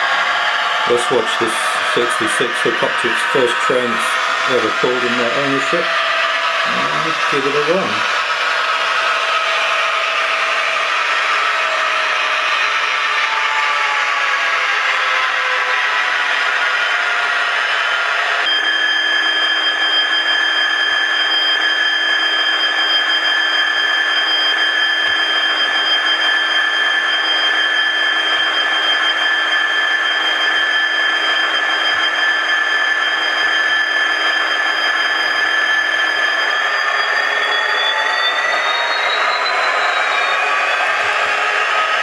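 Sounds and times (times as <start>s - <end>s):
high whine: 0.0s - 42.0s
model locomotive engine sound: 0.0s - 42.0s.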